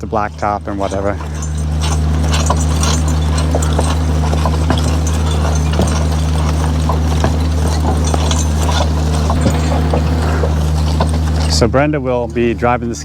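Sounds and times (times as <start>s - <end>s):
harness clinking: 0.0s - 13.0s
horse hooves clopping: 0.0s - 13.0s
steady low hum: 0.0s - 13.0s.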